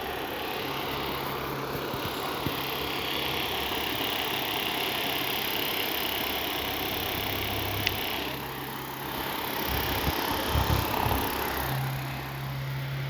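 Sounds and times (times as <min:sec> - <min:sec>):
rotary tool whining: 0:00.0 - 0:13.0.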